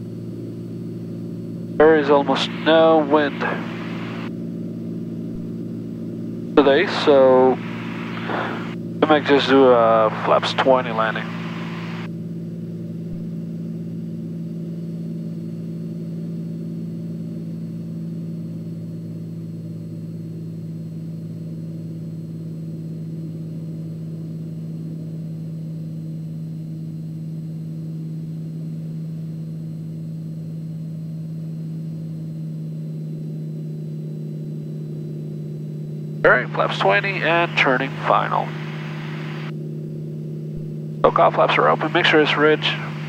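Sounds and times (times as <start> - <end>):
propeller plane engine drone: 0.0 - 43.0.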